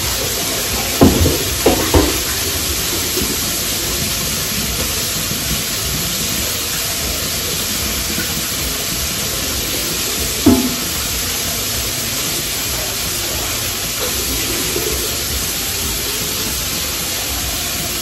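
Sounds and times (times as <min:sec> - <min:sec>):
sausage sizzling on griddle: 0:00.0 - 0:18.0
utensil clank: 0:00.0 - 0:18.0.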